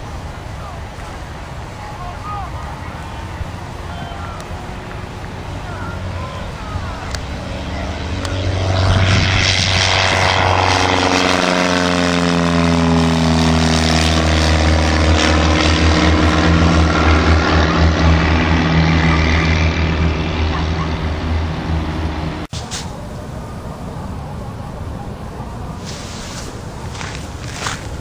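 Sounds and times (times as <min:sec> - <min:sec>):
propeller airplane taking off: 0:00.0 - 0:28.0.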